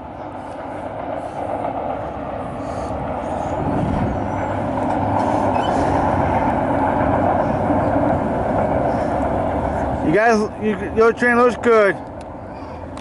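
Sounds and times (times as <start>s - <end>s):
freight train rumbling: 0.0s - 13.0s.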